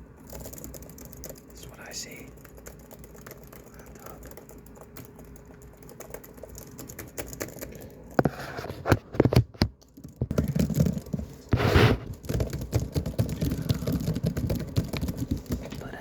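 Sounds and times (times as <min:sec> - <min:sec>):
laptop keyboard typing: 0:00.0 - 0:16.0.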